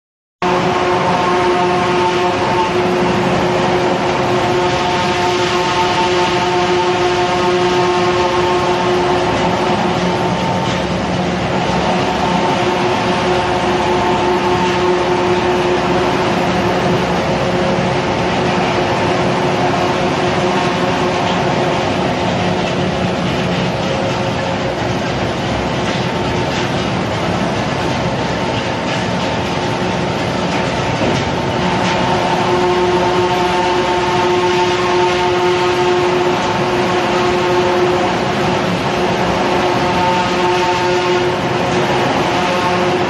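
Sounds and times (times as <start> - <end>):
held hum tones: 0.4 - 43.0
straw shredder running: 0.5 - 43.0.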